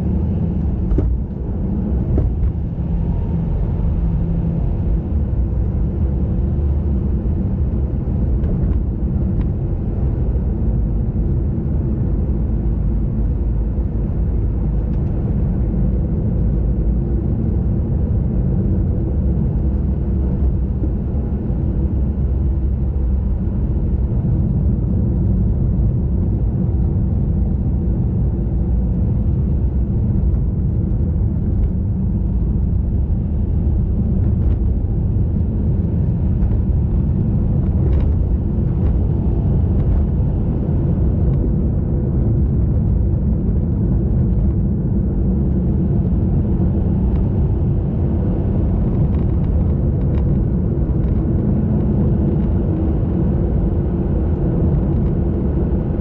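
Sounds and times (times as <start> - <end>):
wind rumble: 0.0 - 56.0.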